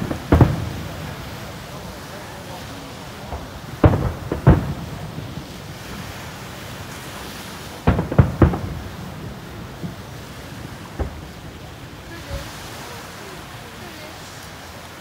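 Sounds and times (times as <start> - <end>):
firework shells bursting: 0.0 - 12.5.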